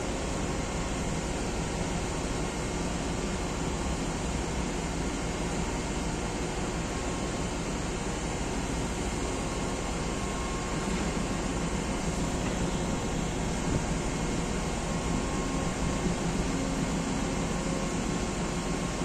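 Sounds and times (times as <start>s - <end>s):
machinery and ventilation fans humming: 0.0s - 19.0s.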